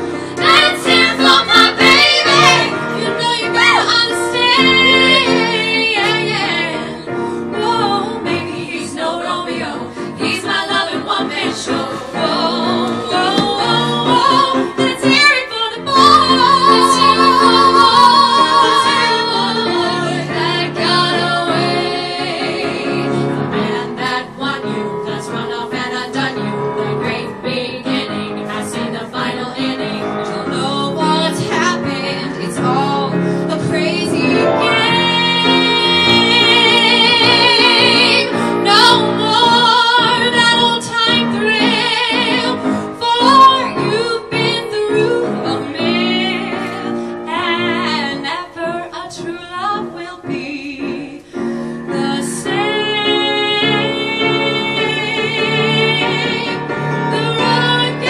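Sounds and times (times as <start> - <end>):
piano accompaniment: 0.0 - 58.0
woman singing: 0.4 - 7.0, 7.6 - 58.0.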